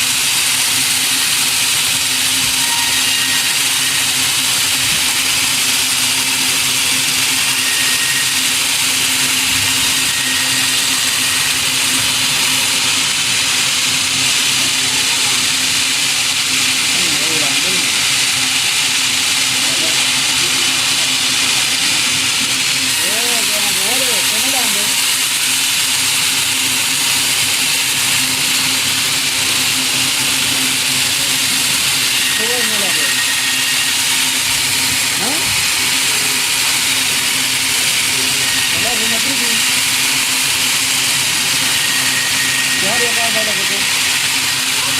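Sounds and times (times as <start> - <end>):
sawmill machinery hiss: 0.0 - 44.9.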